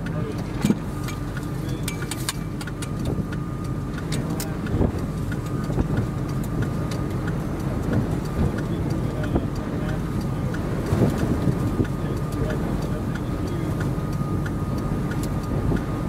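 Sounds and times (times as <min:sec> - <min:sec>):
faint steady whine: 0:00.0 - 0:16.0
light ticks: 0:00.0 - 0:16.0
vehicle engine rumbling: 0:00.0 - 0:16.0.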